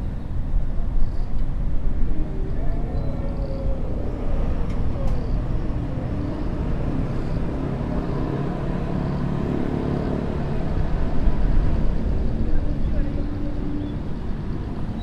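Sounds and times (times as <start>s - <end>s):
faint engine hum: 0.0s - 15.0s
passing motor vehicles rumble: 0.0s - 15.0s.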